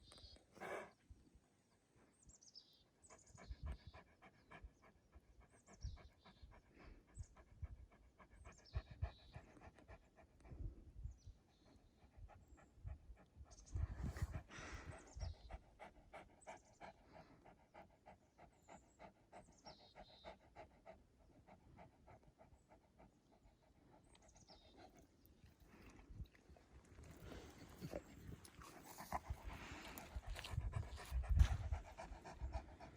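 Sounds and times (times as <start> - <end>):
animal panting: 3.0 - 32.9.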